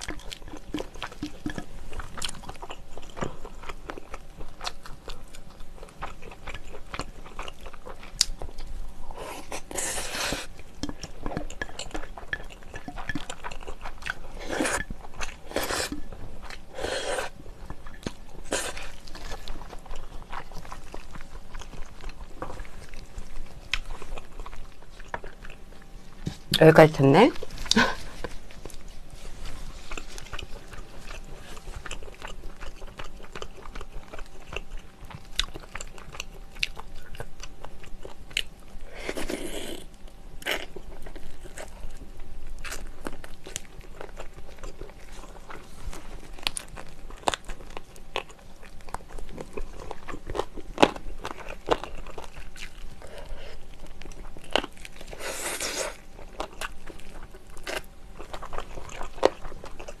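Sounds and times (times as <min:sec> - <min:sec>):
chewing and biting: 0:00.0 - 0:26.6, 0:27.4 - 1:00.0.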